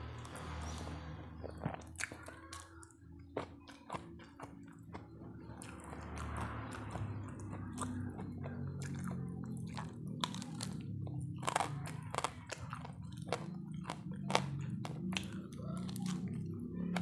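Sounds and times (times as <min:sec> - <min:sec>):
chewing crunchy food: 0:00.0 - 0:17.0.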